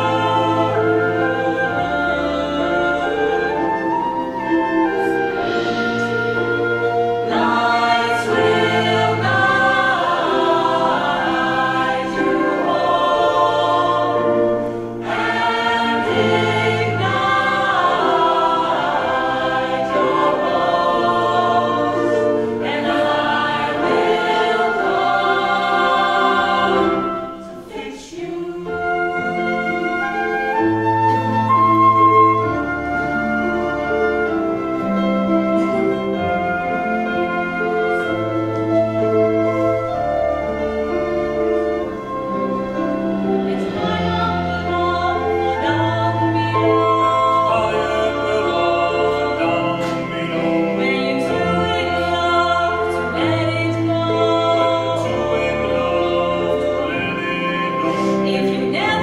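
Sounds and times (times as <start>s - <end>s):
choir singing: 0.0s - 59.0s
small ensemble with strings: 0.0s - 59.0s.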